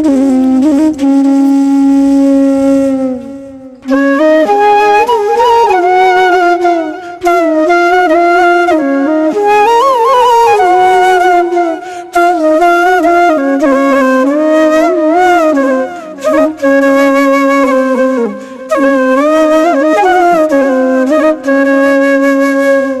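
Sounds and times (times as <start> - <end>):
solo flute melody: 0.0 - 23.0.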